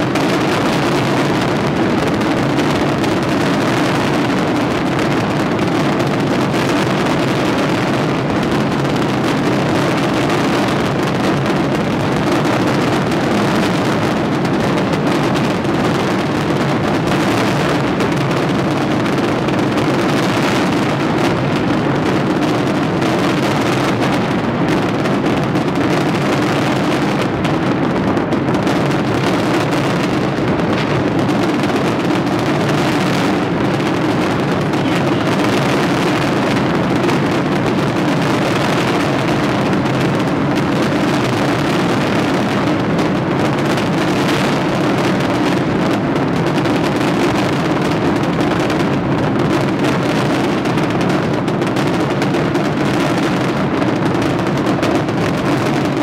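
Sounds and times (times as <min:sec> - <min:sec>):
fireworks barrage: 0:00.0 - 0:56.0.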